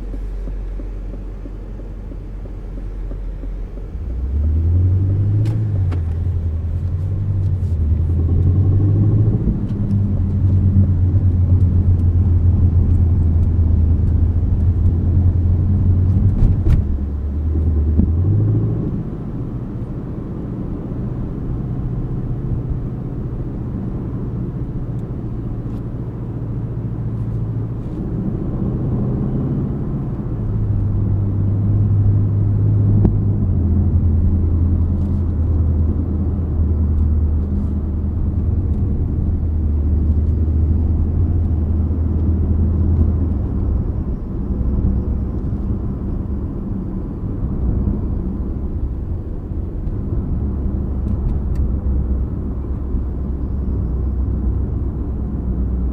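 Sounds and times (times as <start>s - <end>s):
car engine shifting gears: 0.0s - 55.9s.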